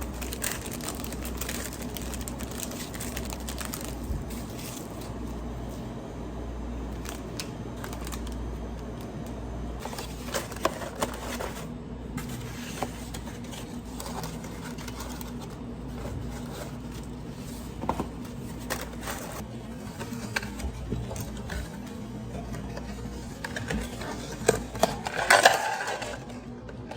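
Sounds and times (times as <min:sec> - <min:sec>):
low machine hum: 0:00.0 - 0:26.9.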